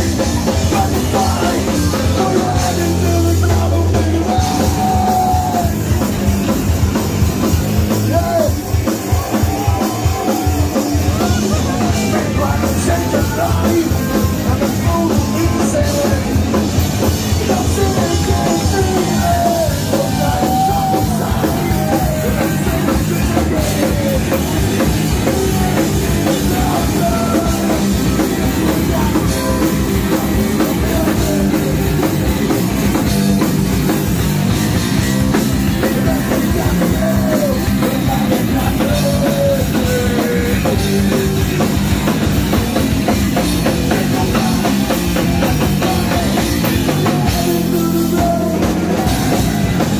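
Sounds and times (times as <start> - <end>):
person singing into microphone: 0.0 - 6.0, 9.2 - 32.1, 35.7 - 41.9, 43.6 - 49.9
bass guitar: 0.0 - 49.9
drum kit beat: 0.0 - 49.9
electric guitar: 0.0 - 49.9.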